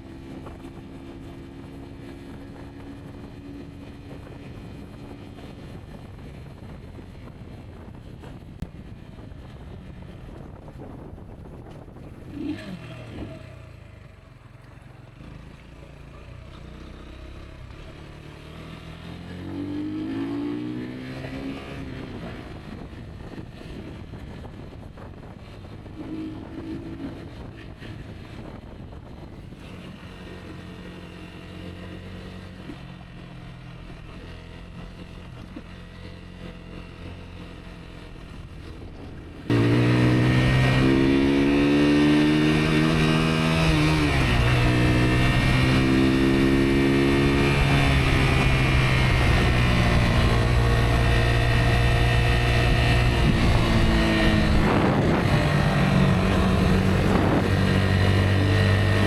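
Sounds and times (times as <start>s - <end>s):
motorcycle engine revving: 10.4s - 59.0s.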